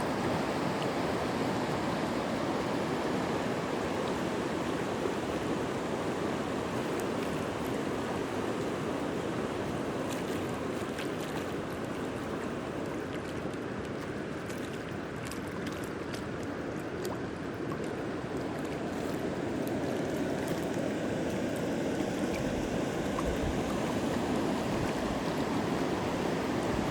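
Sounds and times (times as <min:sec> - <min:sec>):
stream water rushing: 0:00.0 - 0:26.9.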